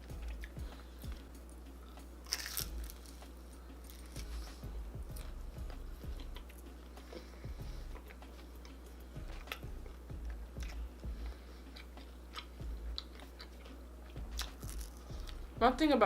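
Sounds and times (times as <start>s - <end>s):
person chewing food: 0.0s - 15.5s
low steady hum: 0.0s - 16.0s.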